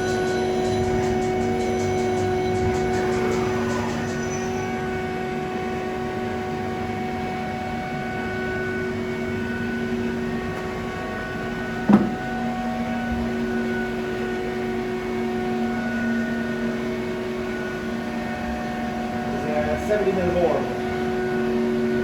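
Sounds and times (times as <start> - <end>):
lathe humming: 0.0 - 22.0.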